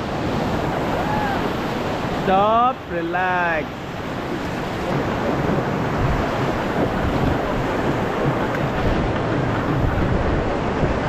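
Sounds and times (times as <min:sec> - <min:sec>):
river water rushing and splashing: 0:00.0 - 0:11.0
wind buffeting microphone: 0:00.0 - 0:11.0.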